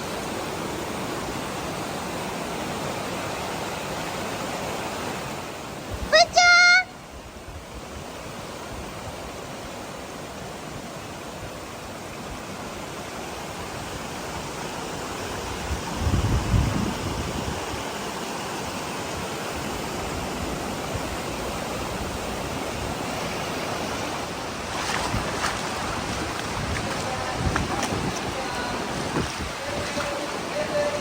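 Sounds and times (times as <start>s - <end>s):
stream water rushing over rocks: 0.0s - 31.0s.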